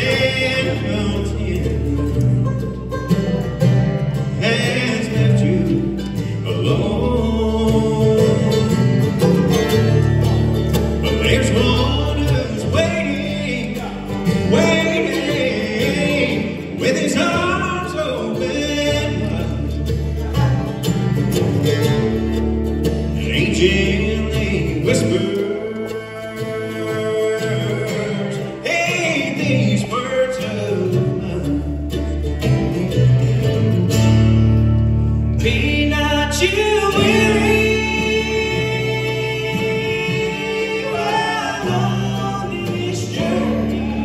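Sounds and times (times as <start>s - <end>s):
acoustic guitar: 0.0s - 44.0s
banjo: 0.0s - 44.0s
bass guitar: 0.0s - 44.0s
mandolin: 0.0s - 44.0s.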